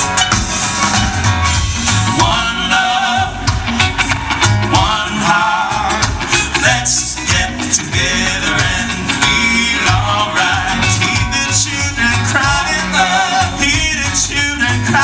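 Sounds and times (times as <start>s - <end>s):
bass guitar: 0.0s - 15.0s
country rock band playing: 0.0s - 15.0s
drums: 0.0s - 15.0s
guitars: 0.0s - 15.0s
person singing: 1.4s - 15.0s.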